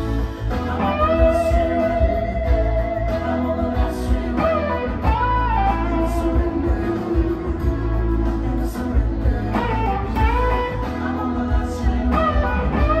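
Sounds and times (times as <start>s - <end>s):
electric guitar solo: 0.0s - 3.6s, 4.4s - 8.4s, 9.5s - 11.3s, 12.1s - 13.0s
backing track with drums: 0.0s - 13.0s.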